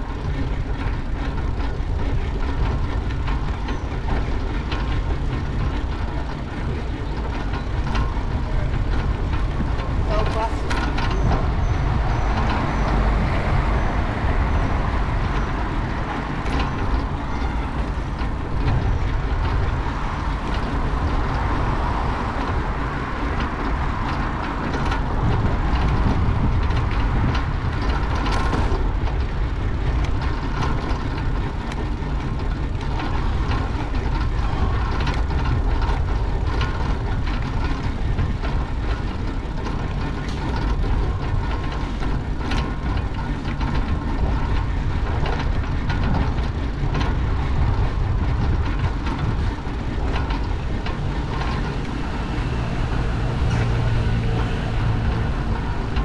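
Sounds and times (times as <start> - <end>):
bicycle clicks and rattles: 0.0 - 56.0
bicycle tyres rolling: 0.0 - 56.0
wind rumble on microphone: 0.0 - 56.0.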